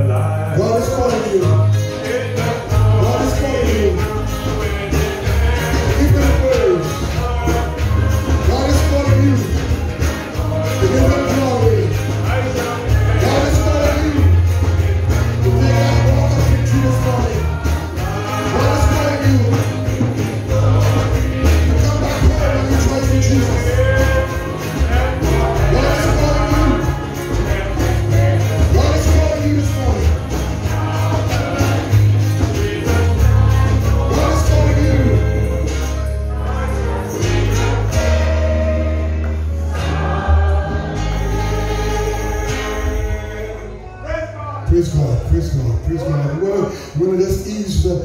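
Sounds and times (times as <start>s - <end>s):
amplified band with strong bass: 0.0s - 48.0s
gospel singing through microphones: 0.0s - 48.0s.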